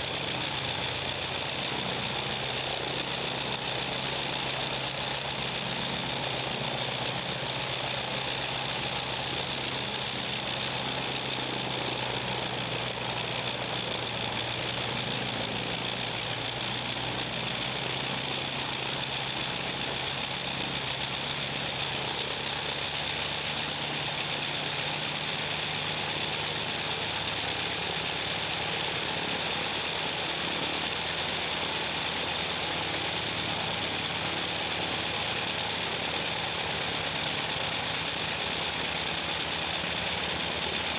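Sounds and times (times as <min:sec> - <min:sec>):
biplane rotary engine running: 0:00.0 - 0:40.9.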